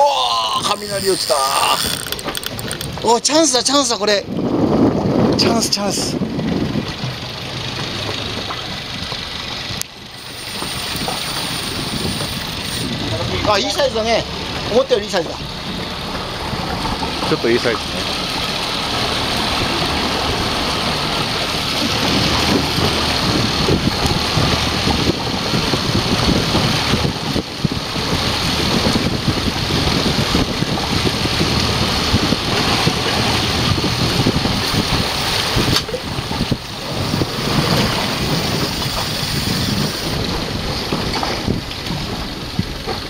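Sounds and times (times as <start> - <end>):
wind blowing on microphone: 0.0 - 7.3, 10.4 - 14.8, 19.6 - 43.0
sea and boat noise: 0.0 - 43.0.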